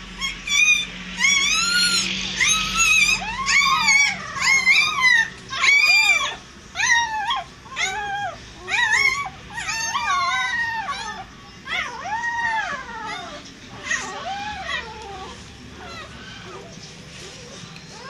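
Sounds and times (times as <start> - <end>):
puppies squealing: 0.0 - 18.0.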